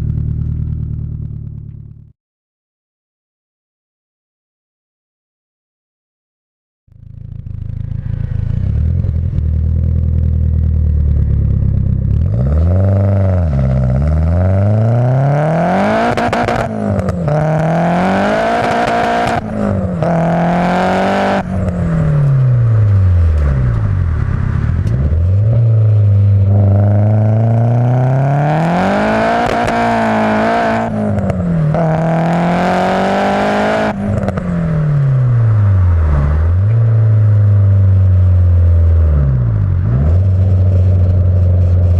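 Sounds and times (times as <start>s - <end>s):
turbocharged car engine revving: 6.9s - 41.9s.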